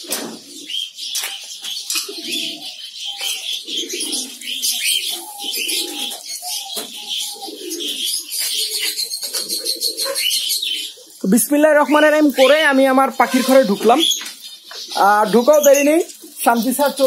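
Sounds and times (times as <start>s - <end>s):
birds chirping and whistling: 0.0s - 17.0s
low warbling bird calls: 0.0s - 17.0s.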